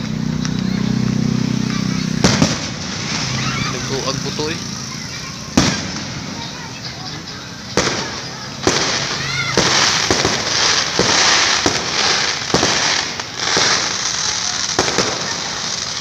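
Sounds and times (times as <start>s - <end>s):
fireworks crackling: 0.0s - 16.0s
fireworks bangs: 0.6s - 16.0s.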